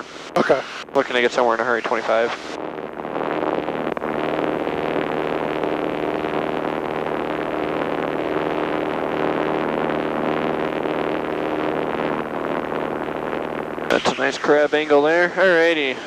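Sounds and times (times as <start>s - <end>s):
airflow noise: 0.0s - 16.0s
propeller plane engine droning: 0.0s - 16.0s.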